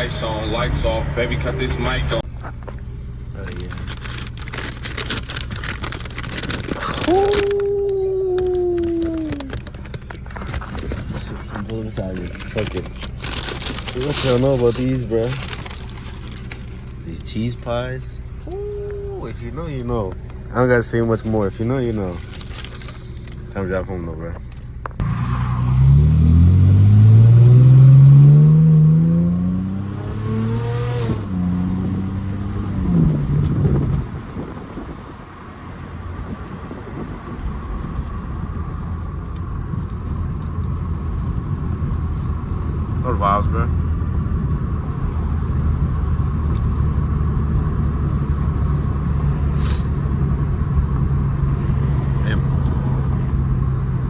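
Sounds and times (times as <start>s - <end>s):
car exhaust under hard acceleration: 0.0s - 54.0s
road and wind noise: 0.0s - 54.0s.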